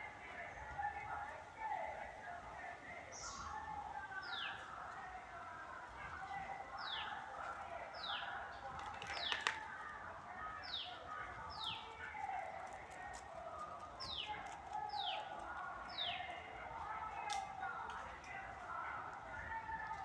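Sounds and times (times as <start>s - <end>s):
background murmur: 0.0s - 20.0s.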